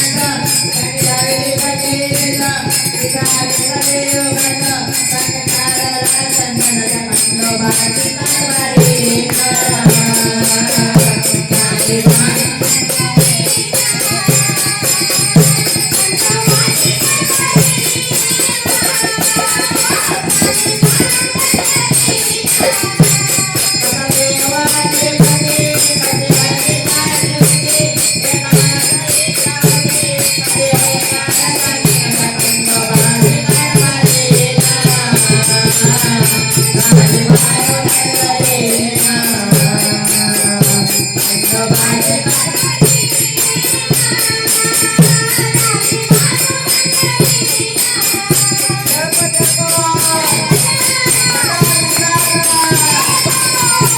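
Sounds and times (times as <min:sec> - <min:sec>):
fast drum beat: 0:00.0 - 0:53.9.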